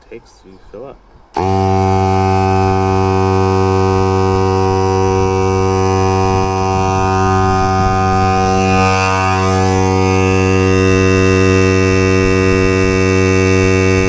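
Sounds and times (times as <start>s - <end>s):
air compressor buzzing hum: 1.3s - 14.0s.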